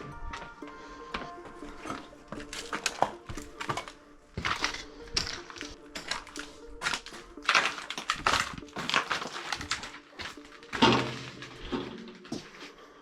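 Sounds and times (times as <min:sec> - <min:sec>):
footsteps crunching on debris: 0:00.0 - 0:12.8.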